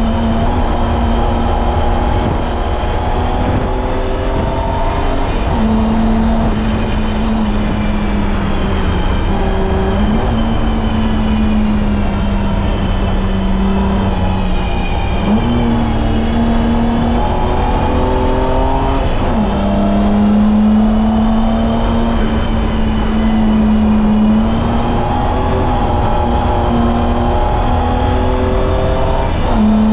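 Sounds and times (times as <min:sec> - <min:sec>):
car engine running hard: 0:00.0 - 0:29.9.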